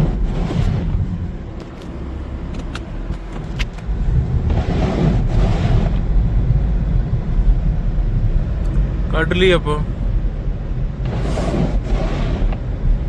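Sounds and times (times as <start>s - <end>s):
car engine running under load: 0.0s - 13.0s.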